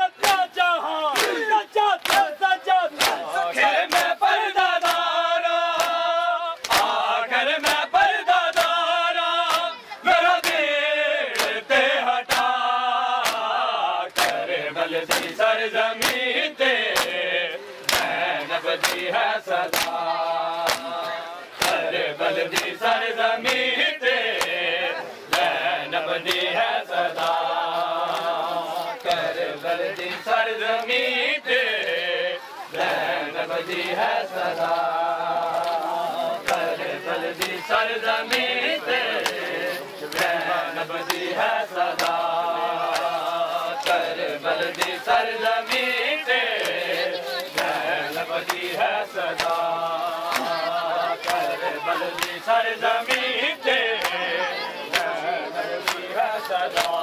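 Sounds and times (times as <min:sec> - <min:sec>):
men chanting a lament: 0:00.0 - 0:57.0
hands slapping bare chests: 0:00.2 - 0:09.7, 0:10.4 - 0:17.2, 0:17.8 - 0:21.0, 0:21.6 - 0:24.6, 0:25.3 - 0:31.0, 0:32.8 - 0:54.3, 0:54.9 - 0:57.0.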